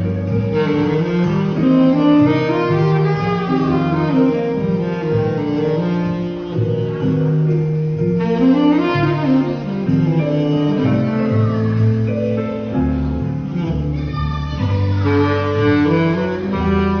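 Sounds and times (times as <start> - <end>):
backing track with bass and strings: 0.0 - 17.0
tenor saxophone ballad melody: 0.0 - 17.0.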